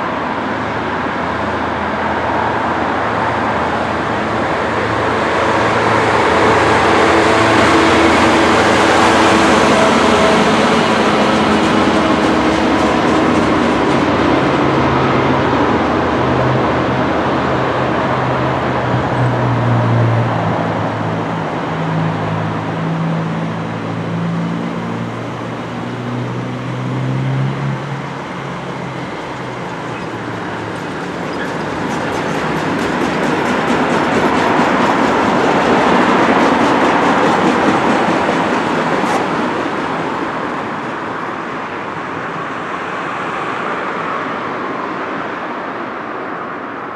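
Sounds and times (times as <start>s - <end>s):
wheels rumbling on rail: 0.0s - 46.8s
train engine drone: 0.0s - 46.9s.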